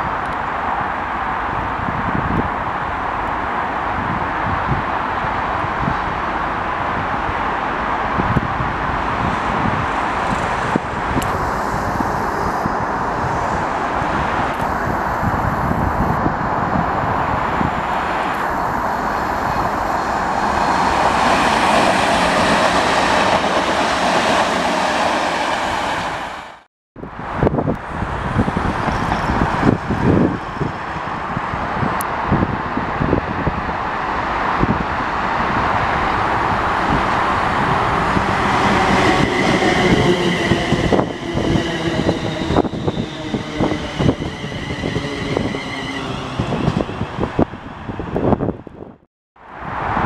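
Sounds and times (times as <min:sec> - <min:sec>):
wind buffeting microphone: 0:00.0 - 0:26.2, 0:27.0 - 0:50.0
electric train passing: 0:00.2 - 0:26.6, 0:27.2 - 0:48.9.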